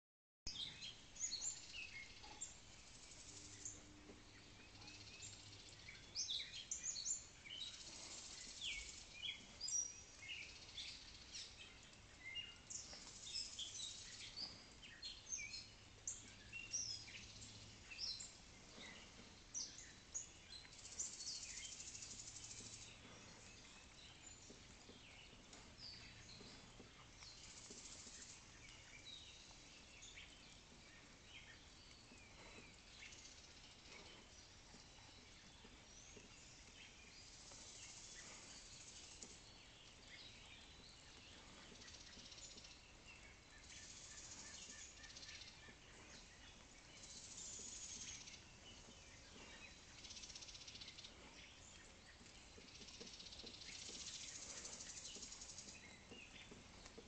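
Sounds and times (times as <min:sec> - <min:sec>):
songbirds chirping: 0:00.5 - 0:57.0.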